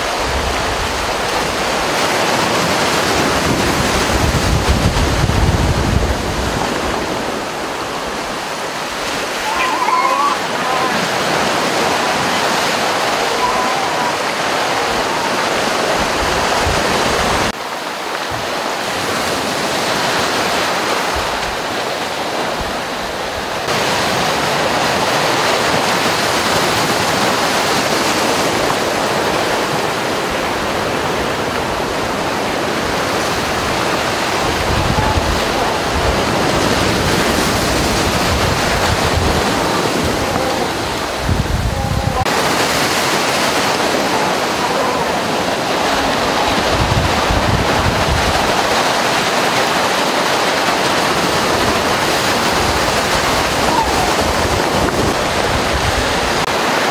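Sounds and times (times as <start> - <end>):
surf breaking on rocks: 0.0 - 56.9.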